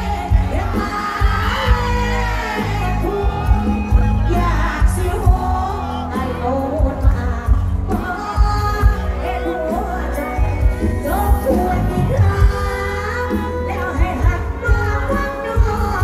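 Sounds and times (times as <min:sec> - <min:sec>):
bass: 0:00.0 - 0:16.0
live band music: 0:00.0 - 0:16.0
woman singing: 0:00.0 - 0:16.0.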